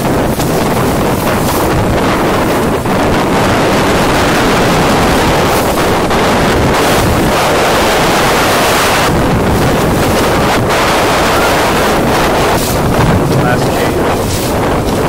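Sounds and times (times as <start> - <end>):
rushing water and waves: 0.0 - 15.0
wind buffeting microphone: 0.0 - 15.0.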